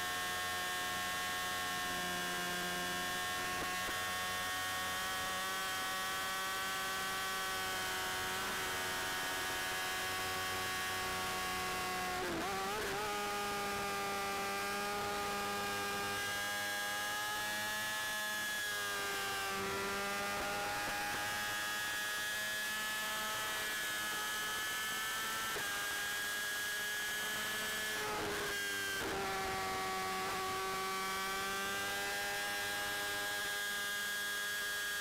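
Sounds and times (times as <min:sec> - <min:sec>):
motorcycle engine whine: 0:00.0 - 0:35.0.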